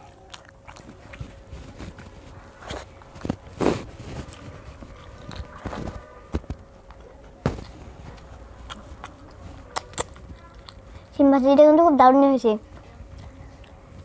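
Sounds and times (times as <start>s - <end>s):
boy chewing: 0.0s - 11.4s, 12.7s - 14.0s.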